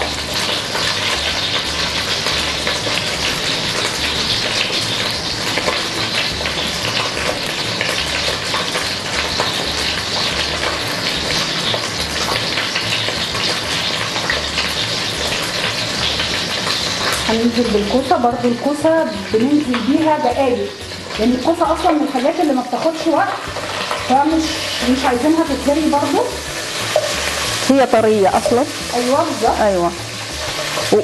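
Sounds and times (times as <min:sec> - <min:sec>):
hot oil sizzling: 0:00.0 - 0:31.0.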